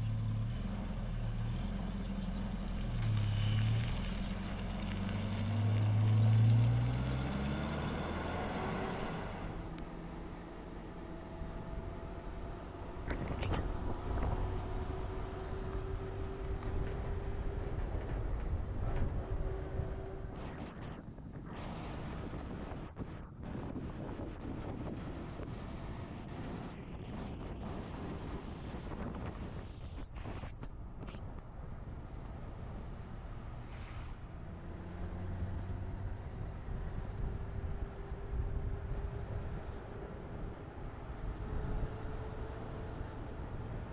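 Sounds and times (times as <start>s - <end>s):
engine and tyre rumble: 0.0s - 43.9s.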